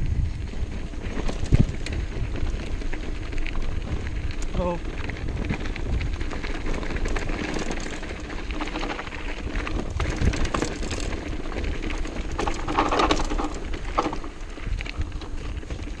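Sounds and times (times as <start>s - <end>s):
bike rattling over bumps: 0.0s - 16.0s
tyres crunching over gravel: 0.0s - 16.0s
wind buffeting microphone: 0.0s - 16.0s.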